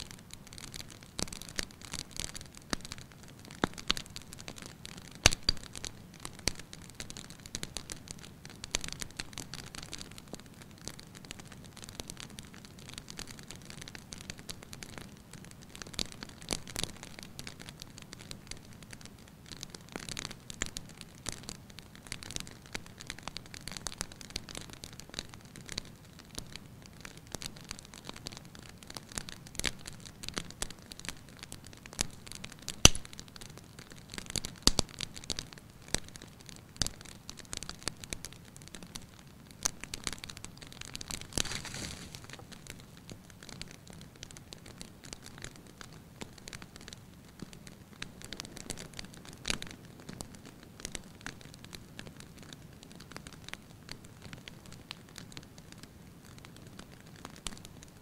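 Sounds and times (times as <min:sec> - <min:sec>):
burning wood popping: 0:00.0 - 0:58.0
wood fire crackling: 0:00.0 - 0:58.0.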